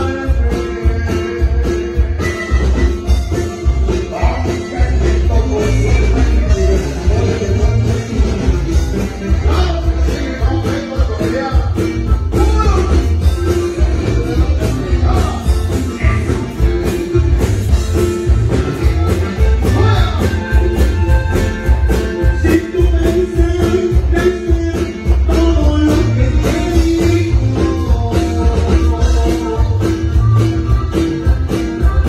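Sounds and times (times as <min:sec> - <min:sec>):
accordion: 0:00.0 - 0:32.0
acoustic guitar: 0:00.0 - 0:32.0
drum kit beat: 0:00.0 - 0:32.0
electric bass: 0:00.0 - 0:32.0.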